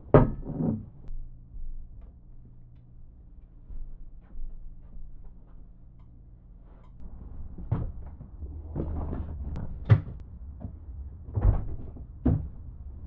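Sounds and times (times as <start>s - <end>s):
dull low rumble: 0.8s - 13.0s.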